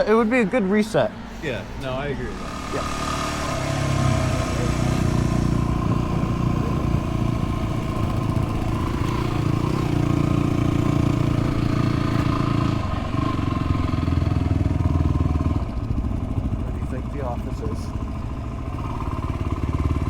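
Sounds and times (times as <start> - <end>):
motorcycle engine running: 1.5 - 20.0.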